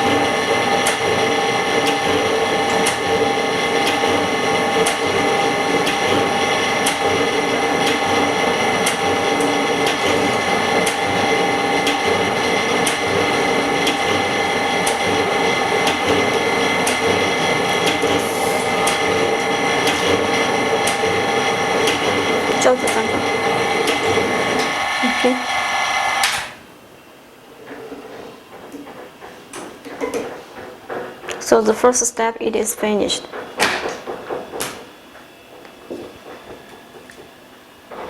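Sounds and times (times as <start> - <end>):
machine humming with tones: 0.0 - 27.1, 29.9 - 38.0.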